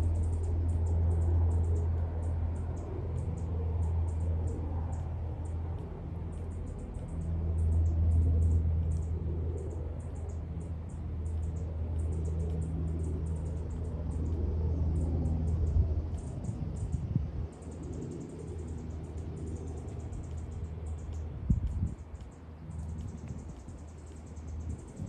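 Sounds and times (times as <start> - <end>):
distant helicopter drone: 0.0 - 25.0.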